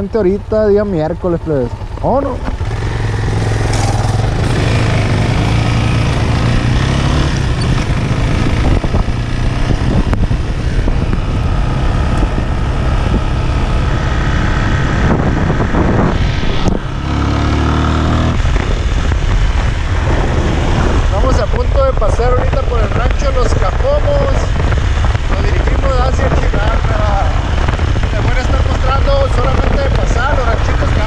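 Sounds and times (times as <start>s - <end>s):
road noise: 0.0s - 31.0s
vehicle engine running: 0.0s - 31.0s.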